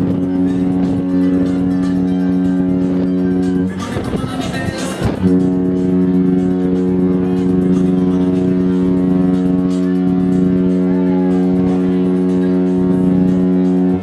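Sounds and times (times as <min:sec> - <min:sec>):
ship horn blast: 0:00.0 - 0:14.0.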